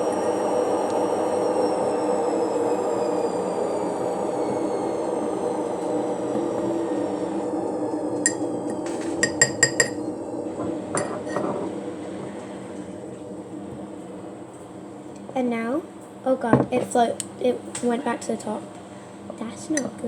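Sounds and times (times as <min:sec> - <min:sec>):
steady whirring hum: 0:00.0 - 0:20.0.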